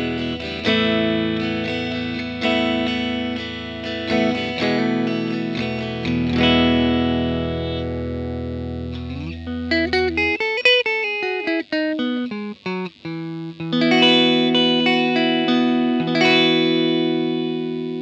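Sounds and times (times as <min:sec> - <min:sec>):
electric guitar chords and notes: 0:00.0 - 0:18.0.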